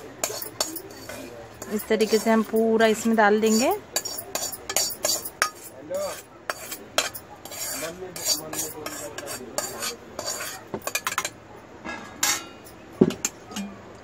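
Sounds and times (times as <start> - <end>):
metal spoon scraping steel pan: 0.0 - 13.8.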